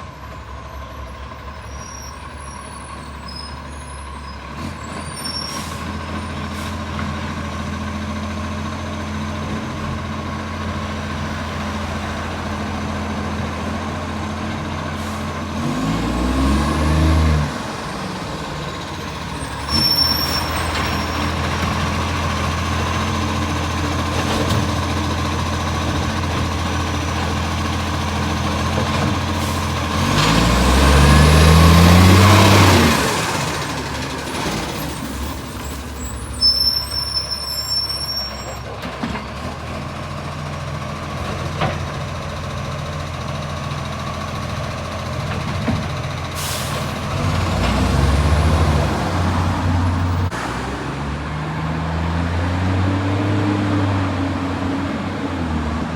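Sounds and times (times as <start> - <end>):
garbage truck diesel engine: 0.0 - 55.9.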